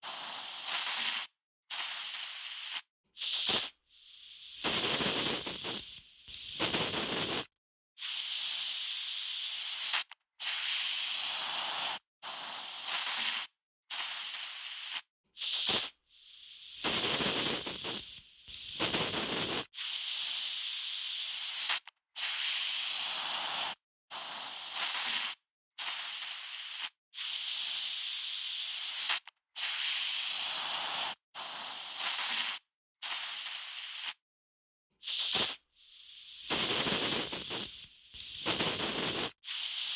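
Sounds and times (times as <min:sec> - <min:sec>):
aerosol spray can hissing: 0:00.0 - 0:34.2, 0:35.0 - 0:39.9.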